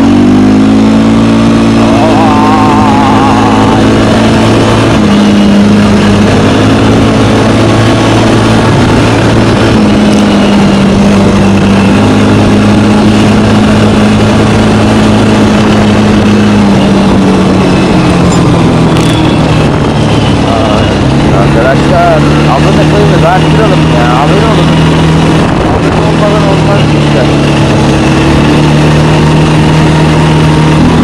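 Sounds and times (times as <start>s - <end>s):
atv engine exhaust drone: 0.0s - 31.0s.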